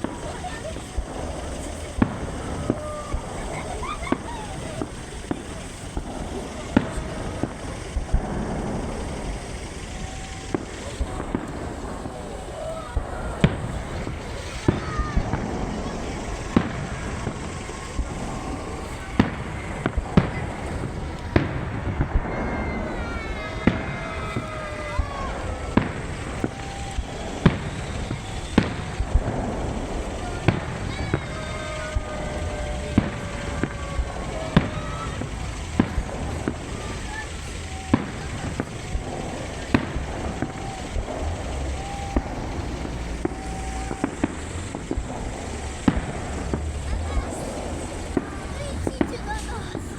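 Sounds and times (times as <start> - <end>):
background hubbub: 0.0 - 49.9
fireworks bursting: 0.0 - 49.9
low rumble: 0.0 - 49.9.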